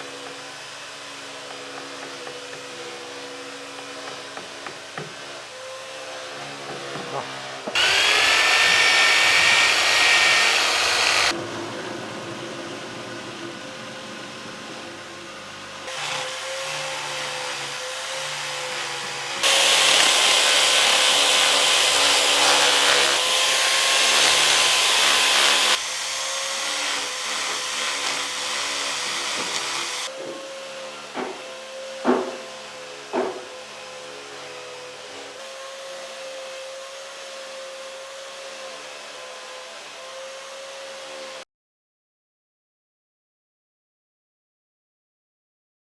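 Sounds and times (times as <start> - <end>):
power tool working wood: 0.0 - 41.4.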